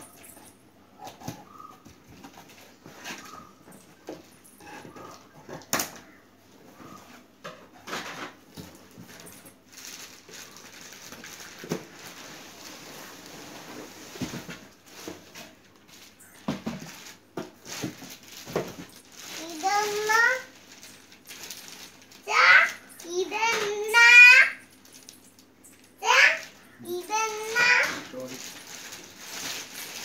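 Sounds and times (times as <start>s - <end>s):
cardboard and plastic rustling: 0.0s - 30.0s.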